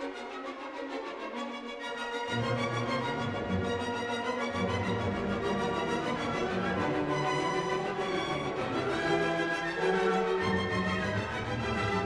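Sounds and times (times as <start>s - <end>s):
orchestral strings music: 0.0s - 12.0s.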